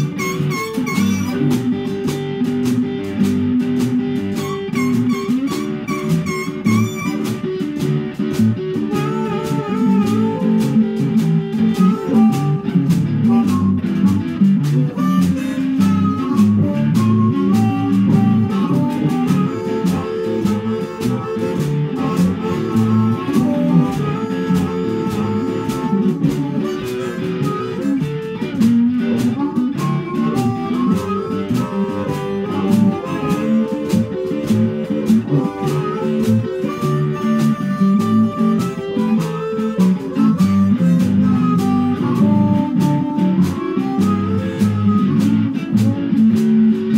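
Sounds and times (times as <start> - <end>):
blues band playing: 0.0 - 46.9
drums: 0.0 - 46.9
electric guitar: 0.0 - 46.9.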